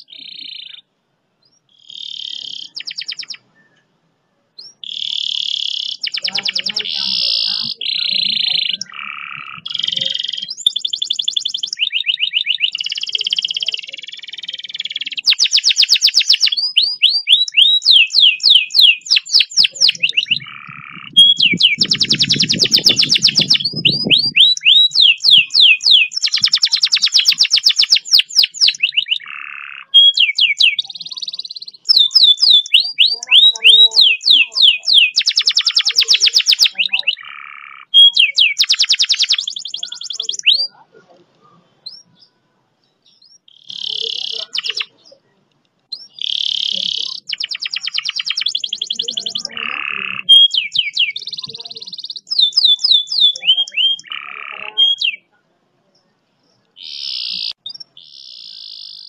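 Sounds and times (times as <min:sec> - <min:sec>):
canary singing trills: 0:00.0 - 0:04.0, 0:04.6 - 0:59.0.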